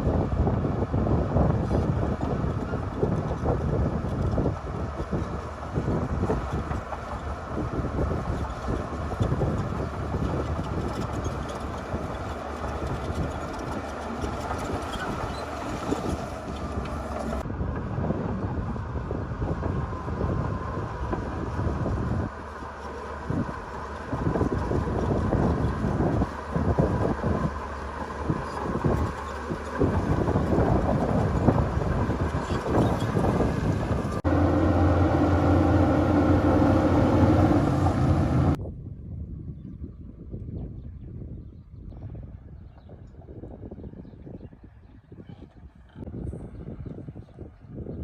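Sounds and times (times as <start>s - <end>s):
heavy diesel machinery rumbling: 0.0s - 38.6s.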